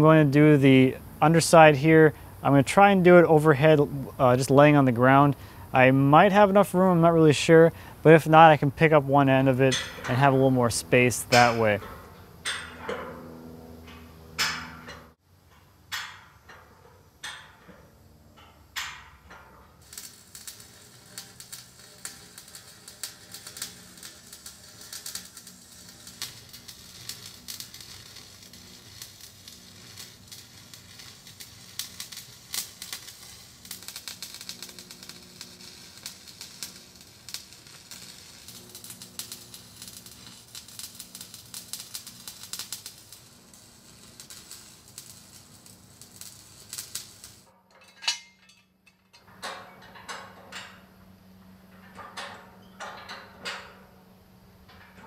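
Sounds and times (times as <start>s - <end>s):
welding arc crackling and sizzling: 0.0s - 15.2s, 15.9s - 50.8s.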